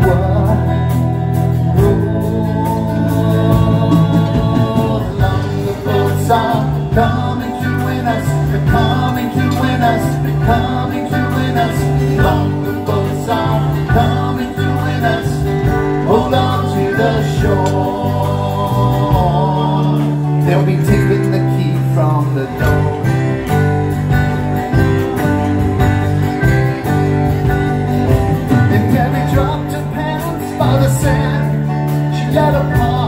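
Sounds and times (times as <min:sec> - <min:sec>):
bass: 0:00.0 - 0:33.0
drums keeping a steady beat: 0:00.0 - 0:33.0
keyboards: 0:00.0 - 0:33.0
strummed acoustic guitars: 0:00.0 - 0:33.0.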